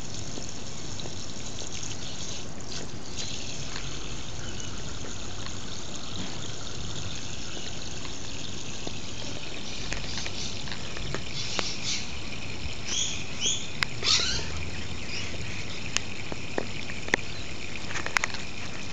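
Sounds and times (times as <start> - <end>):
water spraying from a hose: 0.0 - 18.9.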